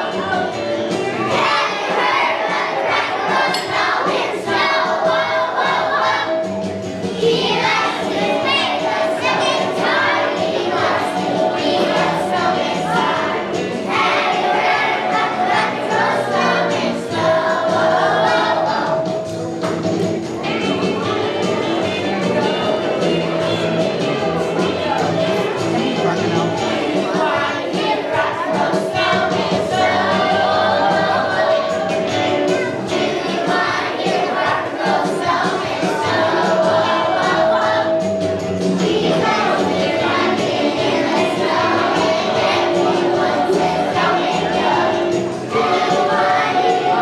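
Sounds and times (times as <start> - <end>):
children's choir singing: 0.0 - 47.0
instrumental accompaniment: 0.0 - 47.0.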